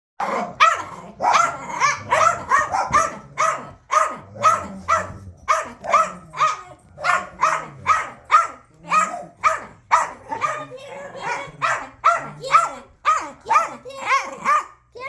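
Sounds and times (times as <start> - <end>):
puppy barking: 0.2 - 14.9.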